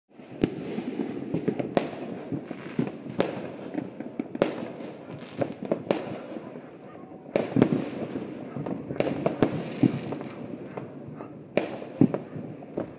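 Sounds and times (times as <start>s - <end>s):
fireworks bangs: 0.1s - 12.9s
fireworks pops and crackles: 0.1s - 12.9s.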